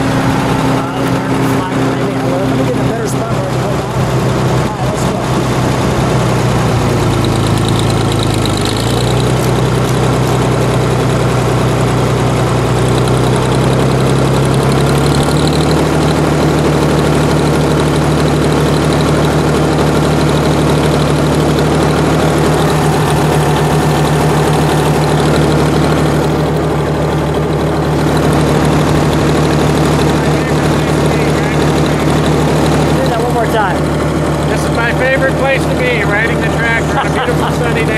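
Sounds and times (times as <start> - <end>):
tractor engine running: 0.0 - 37.9.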